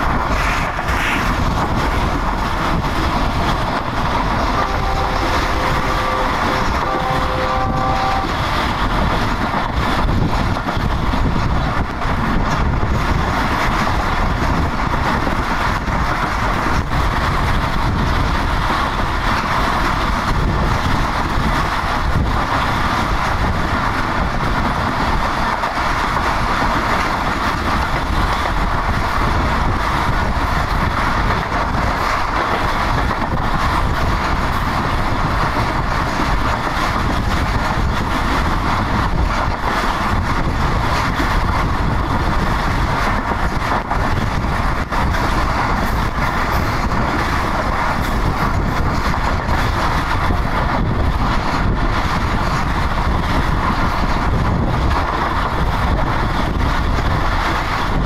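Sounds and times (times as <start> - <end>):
rushing air: 0.0 - 58.0
train wheels running on rails: 0.0 - 58.0
wind buffeting microphone: 0.0 - 58.0.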